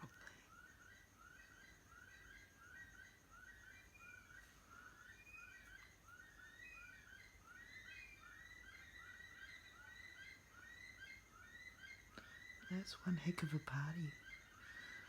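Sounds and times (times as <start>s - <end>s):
birds wailing in chorus: 0.0s - 15.0s.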